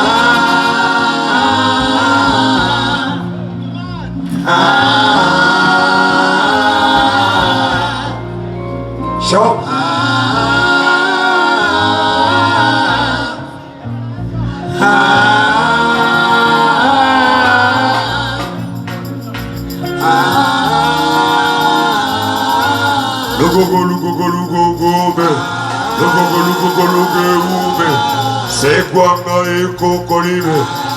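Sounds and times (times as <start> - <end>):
music with long sung notes: 0.0 - 30.9.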